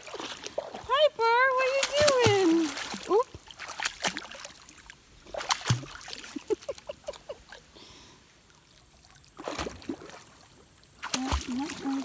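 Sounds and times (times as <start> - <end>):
wading splashes in creek water: 0.0 - 12.0.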